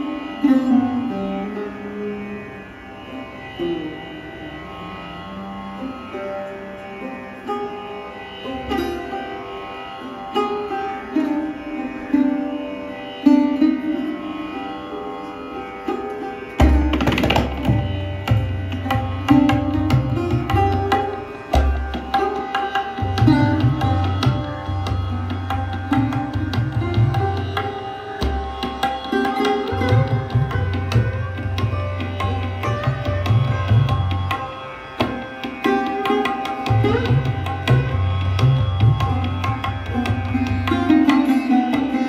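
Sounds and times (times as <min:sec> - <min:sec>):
sarod melody: 0:00.0 - 0:42.0.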